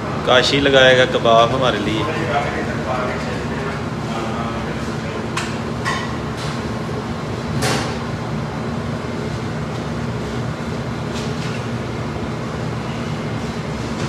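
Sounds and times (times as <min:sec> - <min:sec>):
kitchen machinery humming: 0:00.0 - 0:14.0.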